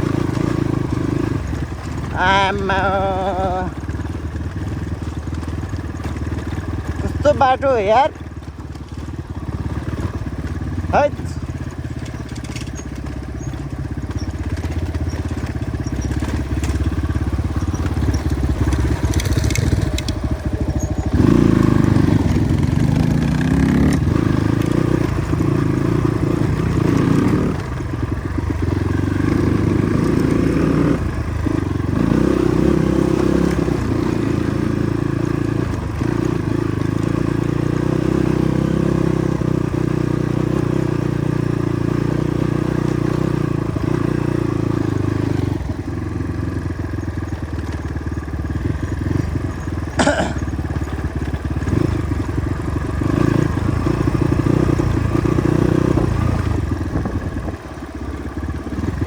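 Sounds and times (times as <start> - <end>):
gravel crunching: 0.0 - 37.6, 40.5 - 59.0
motorcycle engine under load: 0.0 - 59.0.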